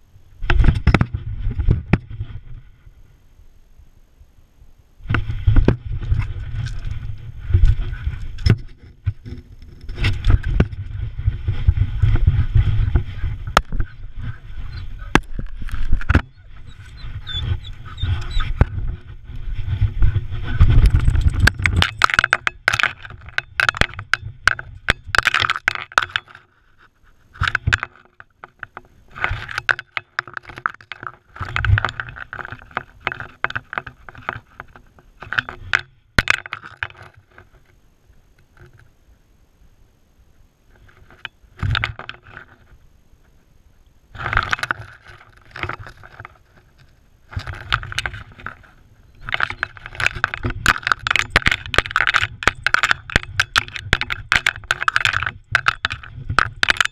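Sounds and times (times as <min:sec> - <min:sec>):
dirt and stones scraping: 0:00.0 - 0:03.1, 0:05.0 - 0:39.0, 0:40.7 - 0:56.9
camera rubbing and rumbling: 0:00.0 - 0:03.2, 0:05.0 - 0:39.2, 0:40.6 - 0:56.9.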